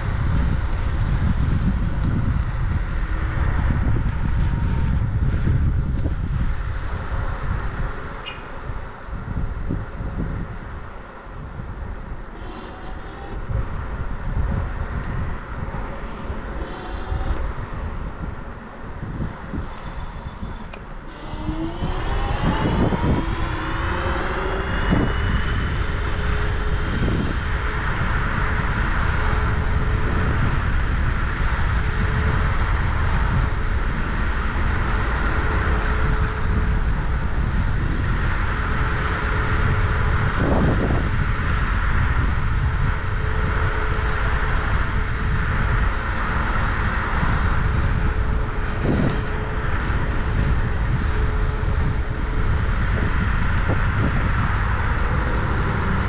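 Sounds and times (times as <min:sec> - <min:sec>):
wind and road noise: 0:00.0 - 0:56.0
thin steady whine: 0:10.6 - 0:56.0.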